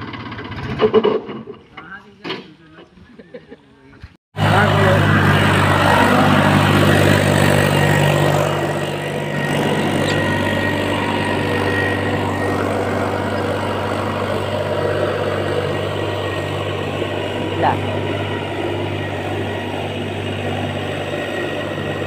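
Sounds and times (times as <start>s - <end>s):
tractor diesel engine under load: 0.0s - 1.6s, 4.4s - 22.0s.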